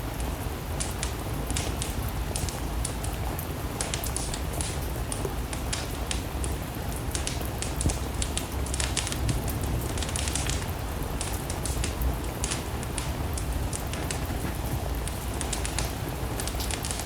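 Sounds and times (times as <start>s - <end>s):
steady rain falling: 0.0s - 17.0s
wood fire crackling: 0.0s - 17.0s.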